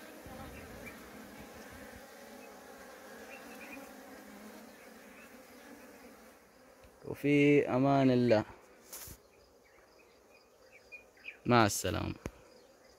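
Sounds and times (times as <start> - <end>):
honeybees buzzing in hive: 0.0 - 12.9.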